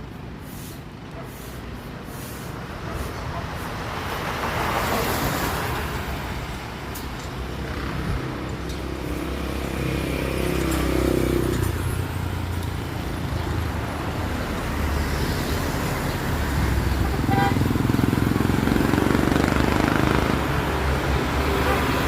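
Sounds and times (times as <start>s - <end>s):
motor vehicle engines running: 0.0s - 22.0s.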